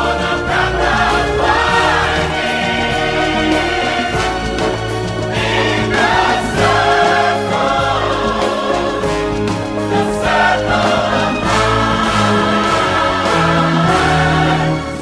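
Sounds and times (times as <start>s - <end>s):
choir singing with instruments: 0.0s - 15.0s.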